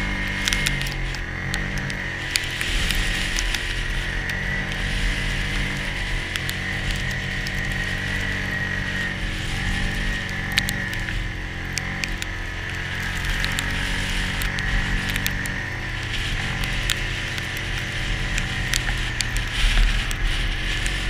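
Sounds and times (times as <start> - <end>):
atv engine drone: 0.0 - 21.0
high whine: 0.0 - 21.0
sharp clicks and ticks: 0.0 - 21.0.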